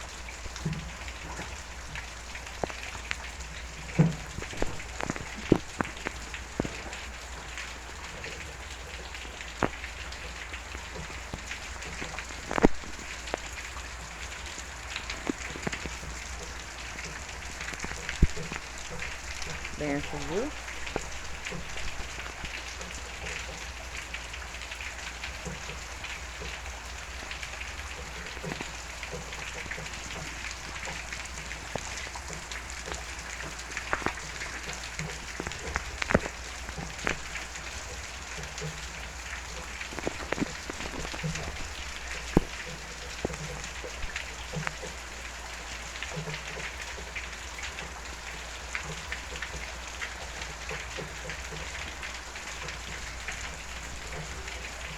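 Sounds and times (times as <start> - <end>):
rain falling: 0.0 - 54.9
drips and taps: 0.1 - 54.9.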